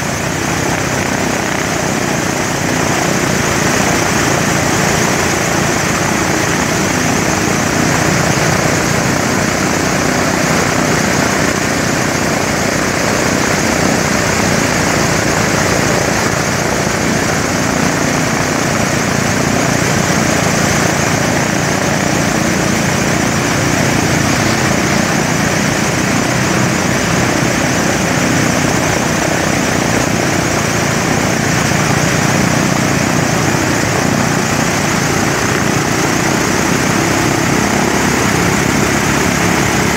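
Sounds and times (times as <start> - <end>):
aircraft piston engines running: 0.0 - 39.9.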